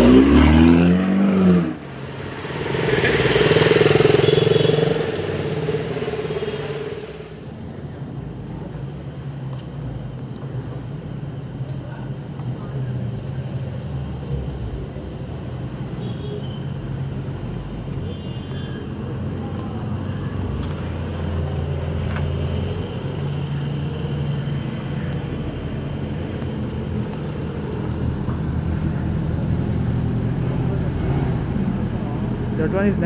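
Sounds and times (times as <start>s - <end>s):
vehicle engines passing: 0.0s - 33.0s.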